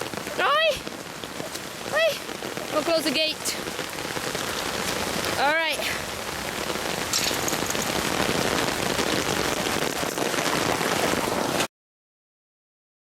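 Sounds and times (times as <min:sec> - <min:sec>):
heavy rain falling: 0:00.0 - 0:11.7.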